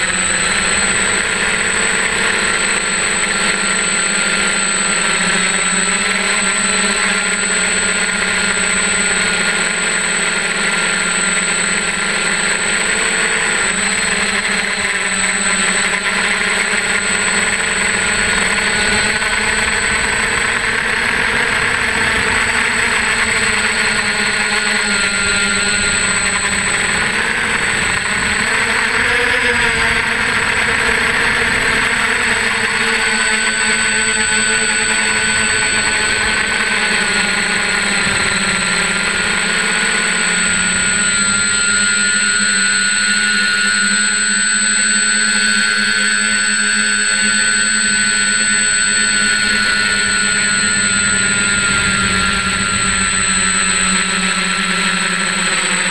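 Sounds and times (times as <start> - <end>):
drone motors and propellers whining: 0.0 - 55.9.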